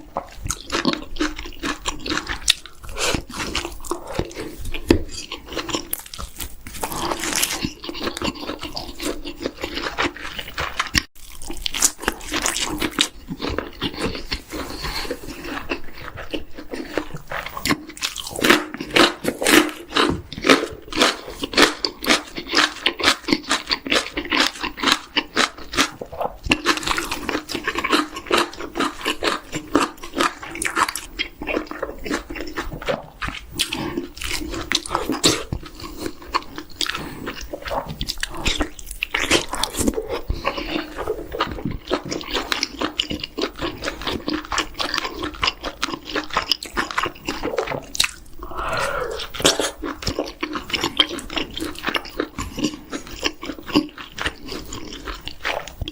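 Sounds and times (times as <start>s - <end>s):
crunching and chewing chicken: 0.0s - 55.9s.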